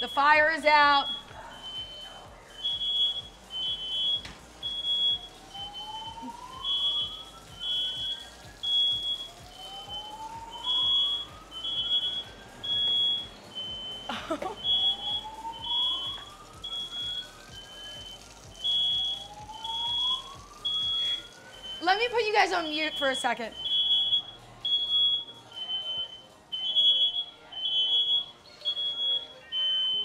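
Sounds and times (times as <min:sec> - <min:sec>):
smoke alarm beeping: 0:00.0 - 0:30.0.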